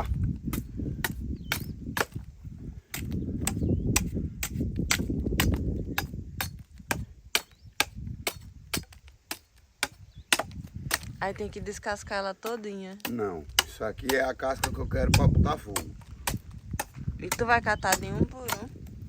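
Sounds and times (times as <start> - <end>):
dry wood snapping: 0.0 - 11.3, 12.4 - 19.0.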